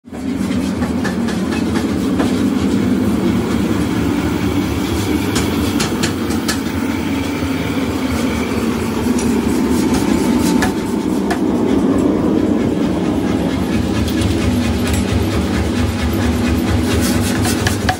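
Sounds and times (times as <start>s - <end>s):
machinery rumble: 0.1s - 17.9s.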